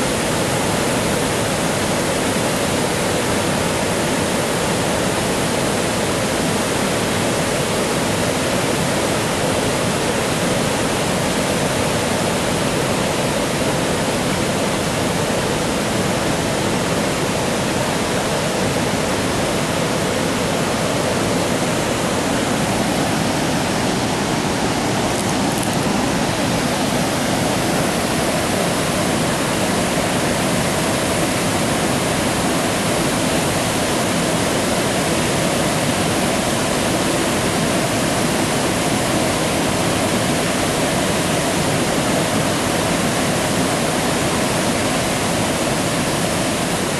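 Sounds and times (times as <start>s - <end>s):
water pouring over dam: 0.0s - 46.9s.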